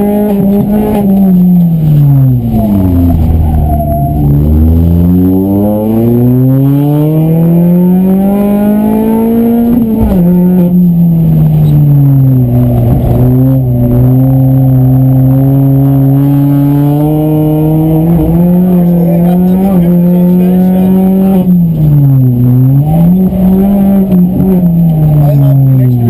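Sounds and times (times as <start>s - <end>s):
car engine revving from inside: 0.0s - 26.0s.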